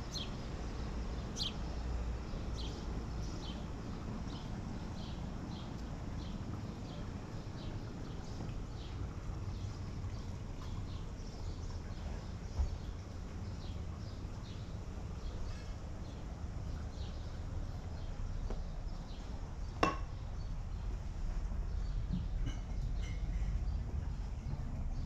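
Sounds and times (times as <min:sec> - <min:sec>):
small birds chirping: 0:00.0 - 0:20.9
low outdoor rumble: 0:00.0 - 0:25.0.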